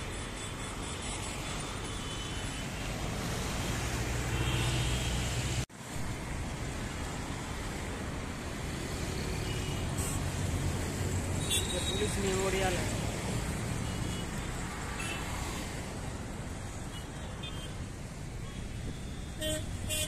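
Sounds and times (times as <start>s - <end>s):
city road traffic: 0.0s - 20.0s.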